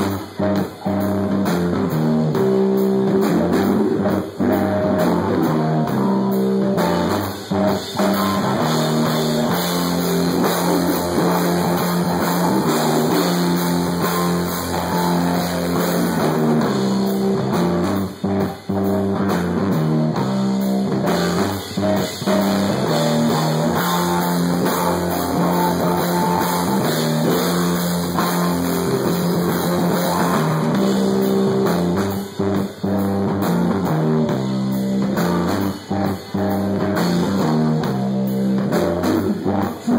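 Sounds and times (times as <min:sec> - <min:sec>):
bass guitar: 0:00.0 - 0:39.9
drum kit: 0:00.0 - 0:39.9
electric guitar riff: 0:00.0 - 0:39.9.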